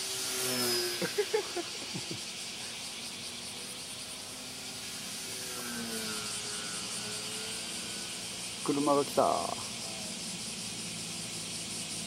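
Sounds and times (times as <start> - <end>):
model plane motor whining: 0.0 - 12.0
steady outdoor hiss: 0.0 - 12.0.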